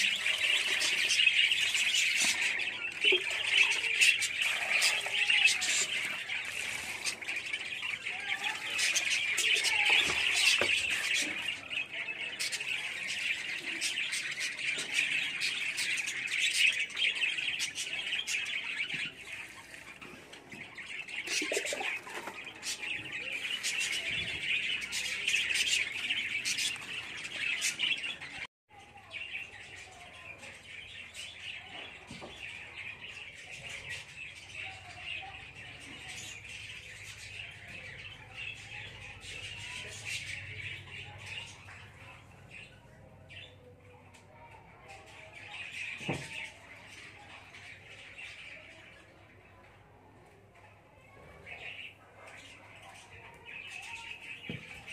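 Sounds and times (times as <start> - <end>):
lovebirds chirping and squawking: 0.0 - 54.9.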